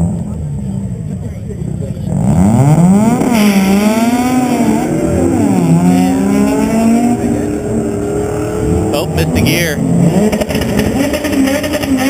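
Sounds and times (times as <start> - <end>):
drag racing cars accelerating: 0.0 - 12.0.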